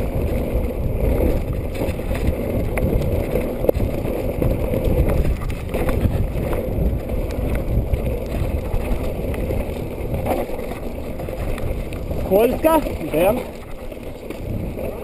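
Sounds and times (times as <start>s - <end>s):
bike clicks and rattles: 0.0s - 15.0s
bike tyres rumbling on gravel: 0.0s - 15.0s
wind buffeting microphone: 0.0s - 15.0s.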